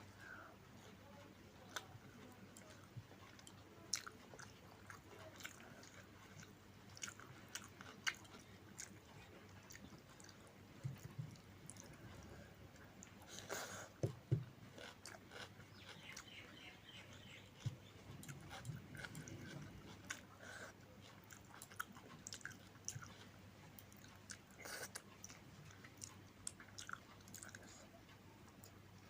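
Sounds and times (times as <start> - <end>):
person chewing food: 1.6 - 28.8.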